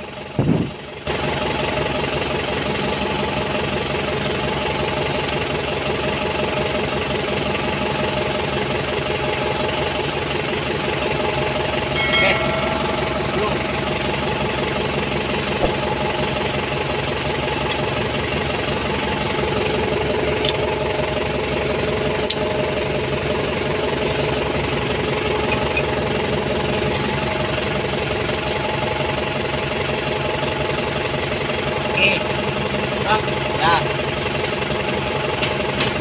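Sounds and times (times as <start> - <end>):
diesel tractor engine idling: 0.0 - 36.0.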